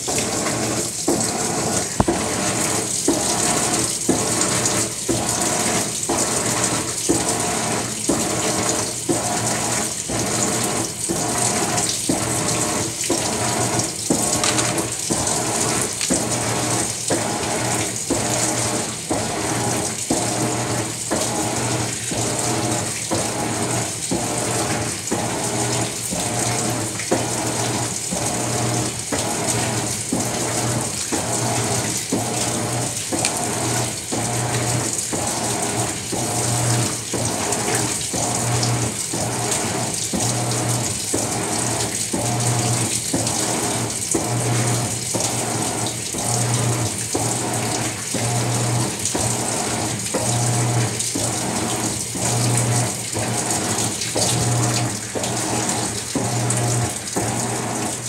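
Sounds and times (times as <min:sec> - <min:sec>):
water sloshing and churning: 0:00.0 - 0:58.0.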